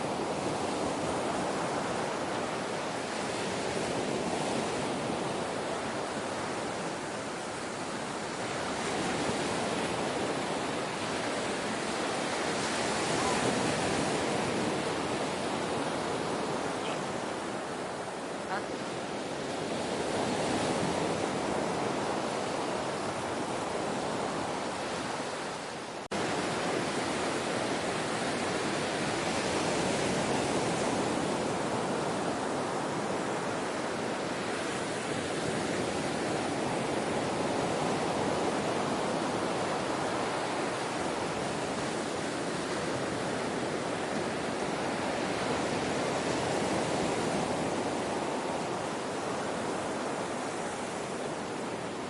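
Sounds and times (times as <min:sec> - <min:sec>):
ocean surf washing: 0:00.0 - 0:52.0.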